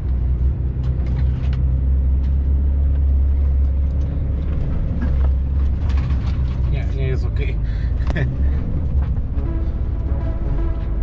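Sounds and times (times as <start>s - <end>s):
diesel engine drone in cab: 0.0s - 11.0s.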